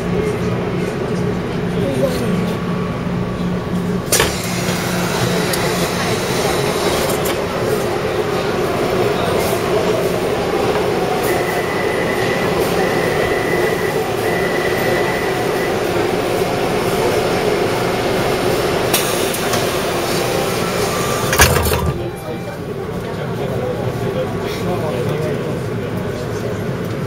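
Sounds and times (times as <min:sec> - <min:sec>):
train wheels and motors rumbling: 0:00.0 - 0:27.0.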